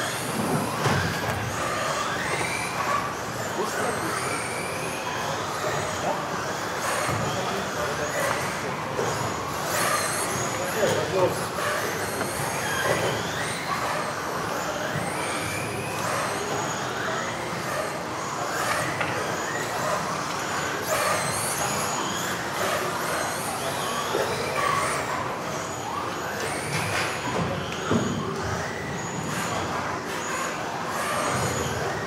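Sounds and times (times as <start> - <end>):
rc car motors whining: 0.0 - 32.0.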